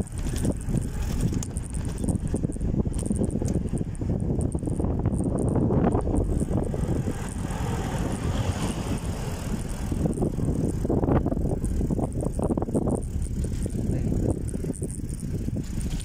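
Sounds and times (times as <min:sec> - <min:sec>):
bicycle tyres rumbling on road: 0:00.0 - 0:16.0
bike rattling over bumps: 0:00.0 - 0:16.0.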